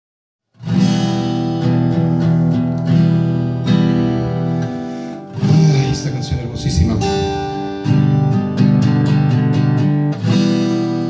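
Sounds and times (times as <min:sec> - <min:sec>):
acoustic guitar strumming chords: 0:00.6 - 0:11.0.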